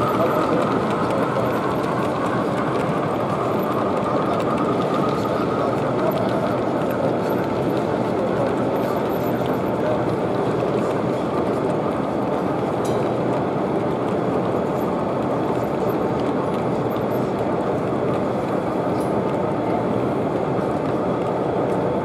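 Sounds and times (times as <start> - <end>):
hubbub of busy hall: 0.0 - 22.0
model train wheels rolling on rail: 0.0 - 22.0.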